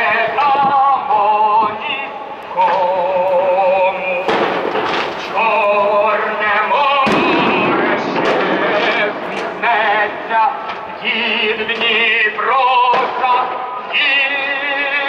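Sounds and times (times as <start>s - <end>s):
amplified singing over loudspeakers: 0.0s - 15.0s
firework bangs: 0.0s - 15.0s.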